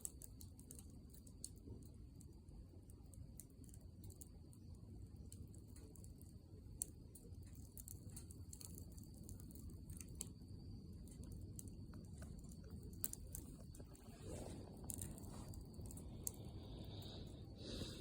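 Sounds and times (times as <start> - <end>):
campfire crackling and popping: 0.0 - 18.0
flames rushing: 0.0 - 18.0.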